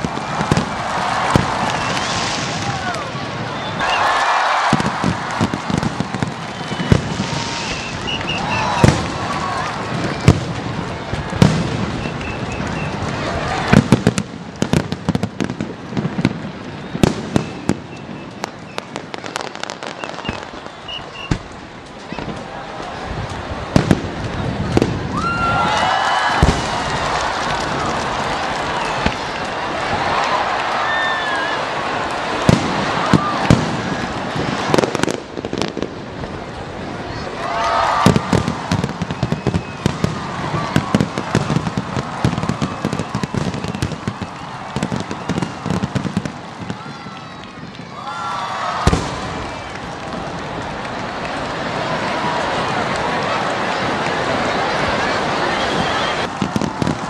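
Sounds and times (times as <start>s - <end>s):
fireworks bangs and cracks: 0.0s - 57.0s
fireworks crackle: 0.0s - 57.0s.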